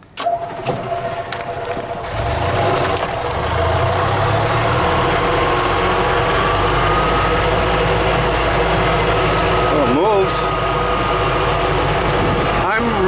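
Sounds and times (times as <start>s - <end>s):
utility cart engine running: 0.0s - 13.0s
faint rising whine: 0.8s - 13.0s.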